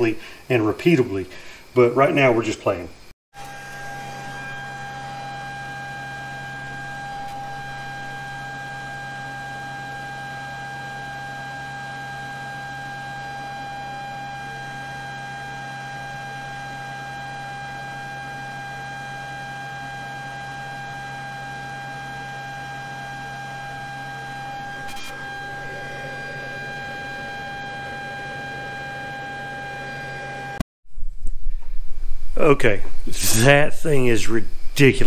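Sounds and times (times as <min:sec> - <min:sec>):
flow bench high whine: 0:00.0 - 0:35.0
low hum: 0:03.4 - 0:18.5, 0:20.1 - 0:34.8.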